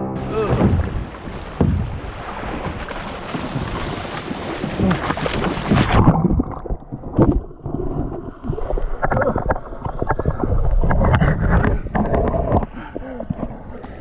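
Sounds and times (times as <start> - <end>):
kayak splash: 0.0 - 14.0
knocks and thrashing underwater: 0.0 - 14.0
muffled gurgling churning water: 0.0 - 14.0.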